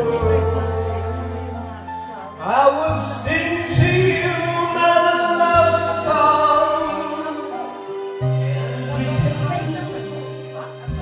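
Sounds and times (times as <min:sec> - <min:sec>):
karaoke music: 0:00.0 - 0:11.0
person singing long notes: 0:00.0 - 0:11.0
steady bass line: 0:00.0 - 0:11.0.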